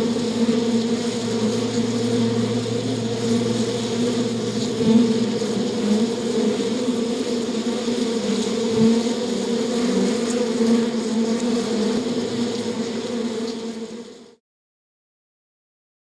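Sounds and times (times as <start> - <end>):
bee buzzing: 0.0 - 14.4.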